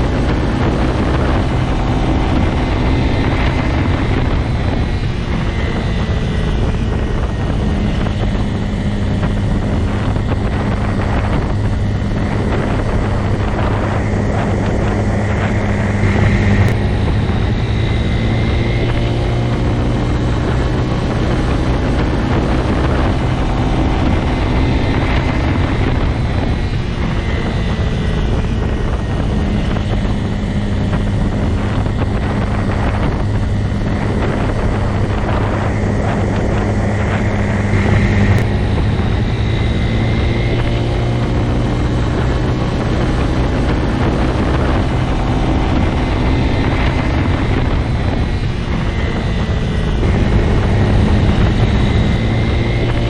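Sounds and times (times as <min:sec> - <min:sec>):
motorcycle engine droning: 0:00.0 - 0:53.0.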